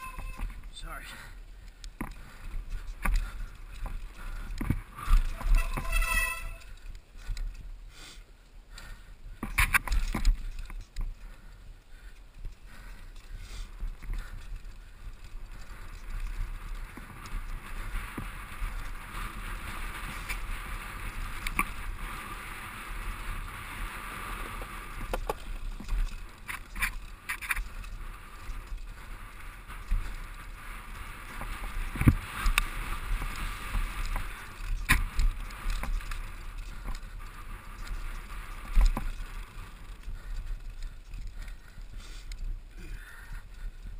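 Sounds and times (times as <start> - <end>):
bike rattling: 0.0 - 43.9
bike tyre and drivetrain noise: 0.0 - 43.9.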